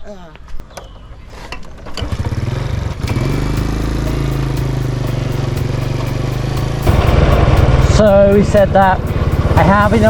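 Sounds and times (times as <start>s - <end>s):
motorbike engine starting and idling: 1.8s - 10.0s.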